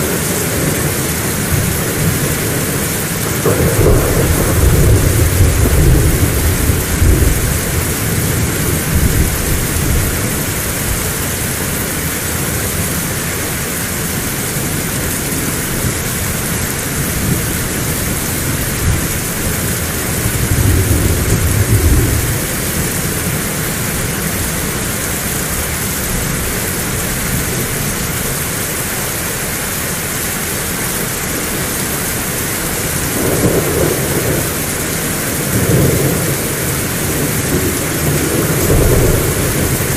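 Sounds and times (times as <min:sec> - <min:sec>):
thunder rumbling: 0:00.0 - 0:12.8, 0:14.6 - 0:28.4, 0:32.6 - 0:39.9
heavy rain: 0:00.0 - 0:39.9.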